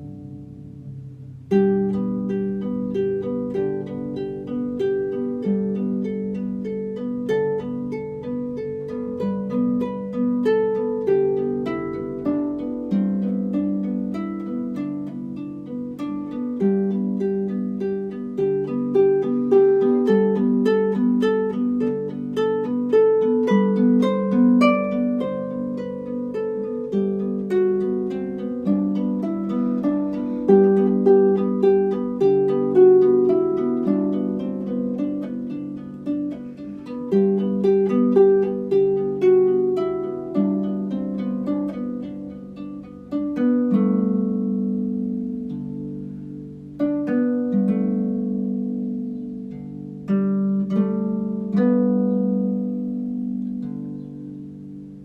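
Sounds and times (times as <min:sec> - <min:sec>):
harp music: 0:00.0 - 0:55.0.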